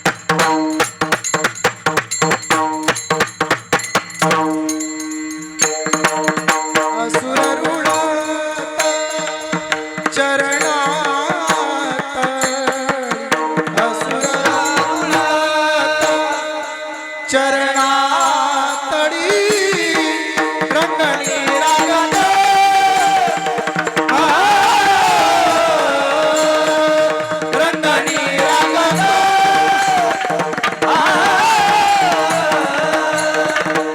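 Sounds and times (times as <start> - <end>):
mridang drumming: 0.0 - 33.9
devotional singing: 6.1 - 33.9.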